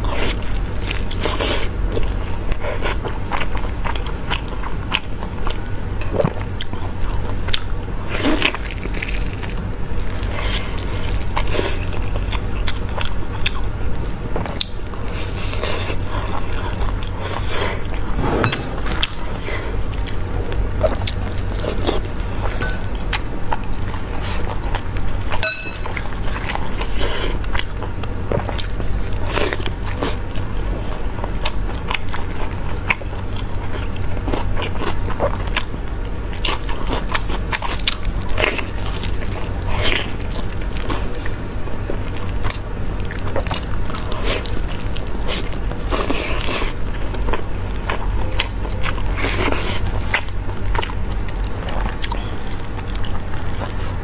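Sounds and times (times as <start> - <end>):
person biting and chewing meat: 0.0 - 54.0.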